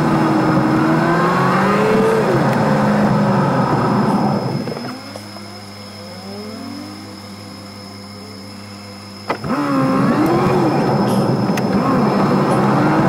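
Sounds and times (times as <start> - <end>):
car engine idling and revving: 0.0 - 13.0
road noise: 0.0 - 13.0.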